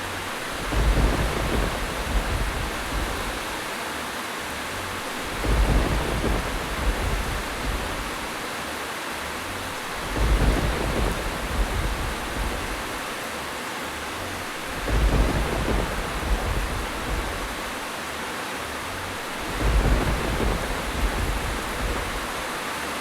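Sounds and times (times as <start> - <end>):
low thunder rumbles: 0.0 - 3.8, 4.8 - 8.5, 9.6 - 13.2, 14.3 - 18.0, 18.8 - 22.8
steady rain: 0.0 - 23.0.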